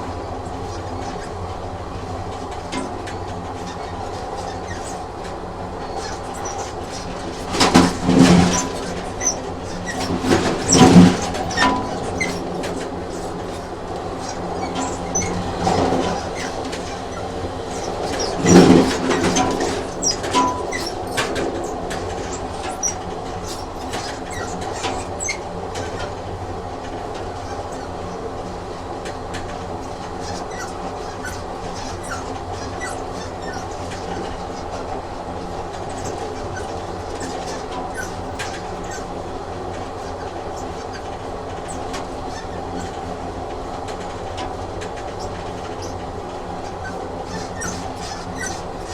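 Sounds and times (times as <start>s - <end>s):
train rumbling on rails: 0.0s - 48.9s
wheels clicking on track: 0.0s - 48.9s.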